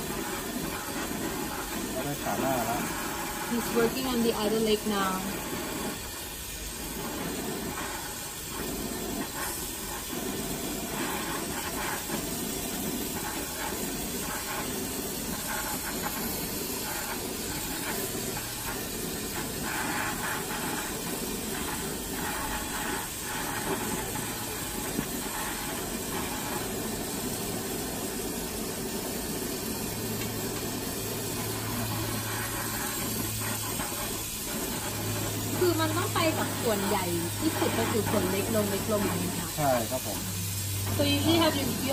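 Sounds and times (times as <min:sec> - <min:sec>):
torch flame hissing: 0:00.0 - 0:41.9.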